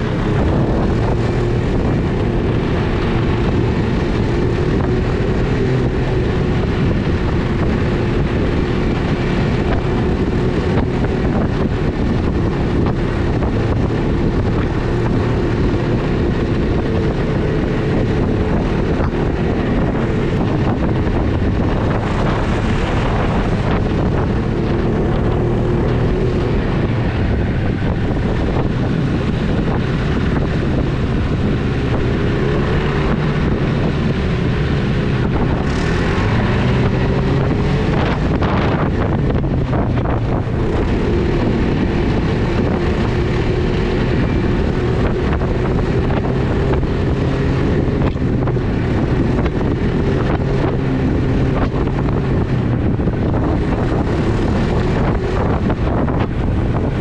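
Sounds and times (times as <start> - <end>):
snowmobile engine running: 0.0 - 57.0
wind noise on microphone: 0.0 - 57.0.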